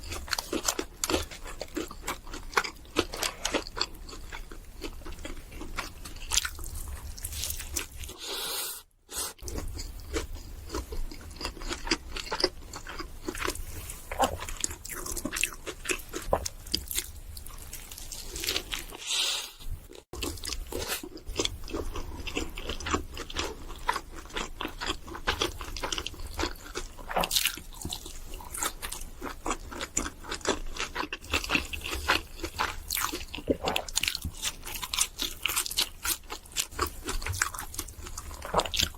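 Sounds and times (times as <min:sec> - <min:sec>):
chewing and crunching food: 0:00.0 - 0:08.4, 0:09.3 - 0:38.9.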